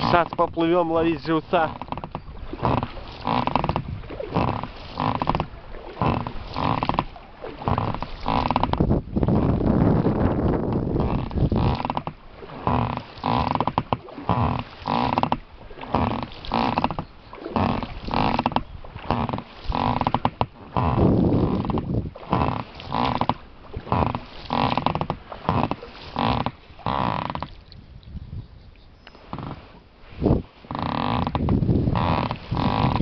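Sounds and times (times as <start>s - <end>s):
oars creaking in rowlocks: 0.0s - 27.8s, 28.7s - 33.0s.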